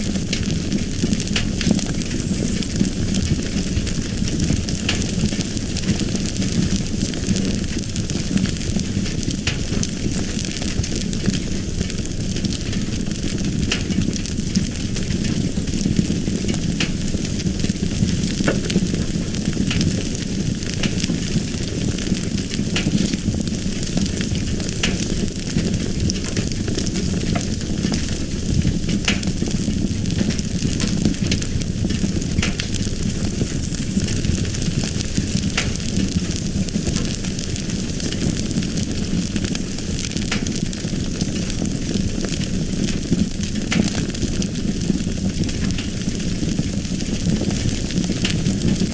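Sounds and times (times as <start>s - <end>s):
fire crackling: 0.0s - 48.9s.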